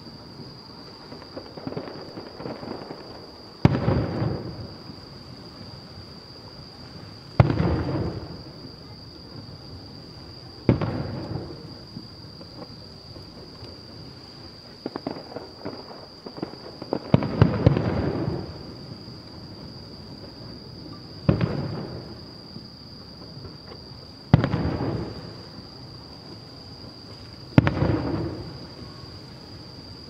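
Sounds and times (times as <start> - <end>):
firework crackling pops: 0.0 - 5.8, 6.7 - 9.5, 10.6 - 30.0
distant firework bangs: 0.9 - 5.7, 7.0 - 18.9, 20.2 - 22.6, 23.2 - 29.2.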